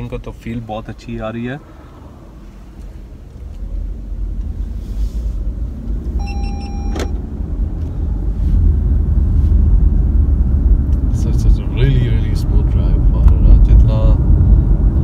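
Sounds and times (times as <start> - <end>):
road rumble inside car: 0.0 - 15.0.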